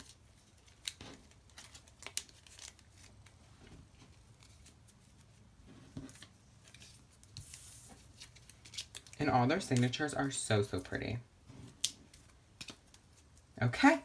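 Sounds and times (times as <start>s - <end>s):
cards rustling: 0.0s - 10.9s, 11.7s - 13.6s.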